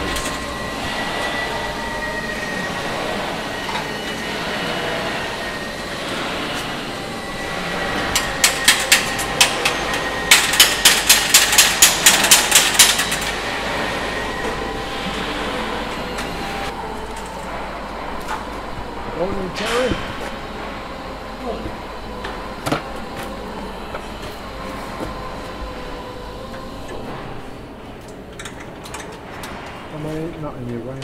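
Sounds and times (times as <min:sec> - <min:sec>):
workshop hum: 0:00.0 - 0:31.0.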